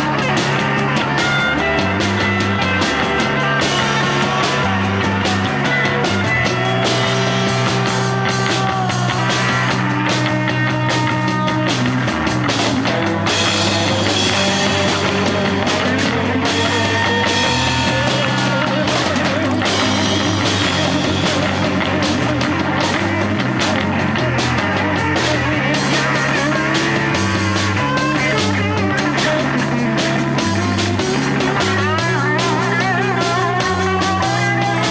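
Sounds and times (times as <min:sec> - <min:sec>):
drum and cymbal hits: 0:00.0 - 0:34.9
live rock band playing loud: 0:00.0 - 0:34.9.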